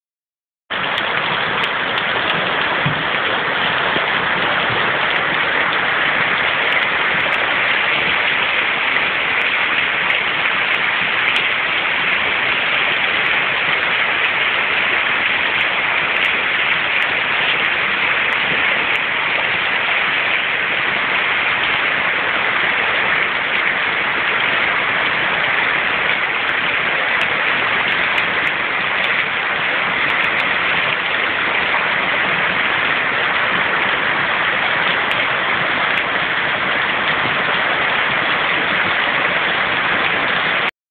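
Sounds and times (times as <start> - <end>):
heavy rain on standing water: 0.7 - 40.7.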